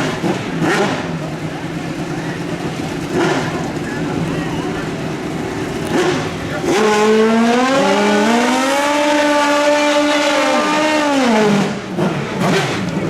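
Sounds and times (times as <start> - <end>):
motorcycle engine at full throttle: 0.0 - 13.0.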